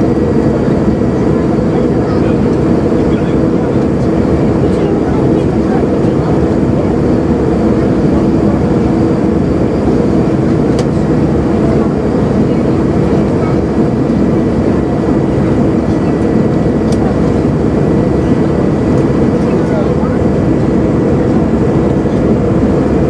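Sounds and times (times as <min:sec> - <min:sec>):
airliner cabin engine noise: 0:00.0 - 0:23.0.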